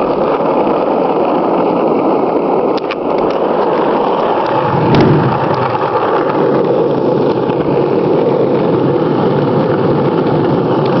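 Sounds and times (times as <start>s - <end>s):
skateboard wheels rolling on asphalt: 0.0s - 11.0s.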